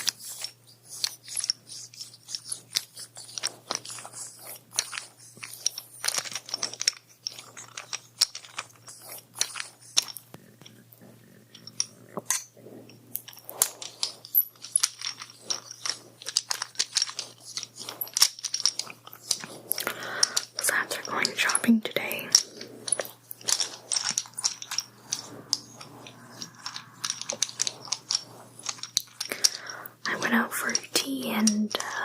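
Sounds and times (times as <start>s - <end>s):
crackling and scratching at microphone: 0.0s - 32.0s.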